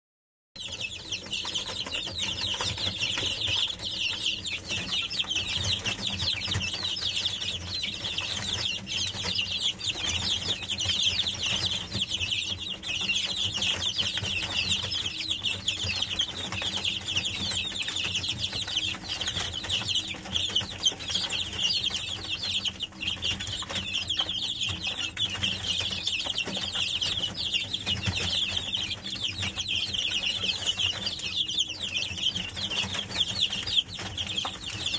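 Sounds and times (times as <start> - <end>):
chicks peeping: 0.6 - 34.9.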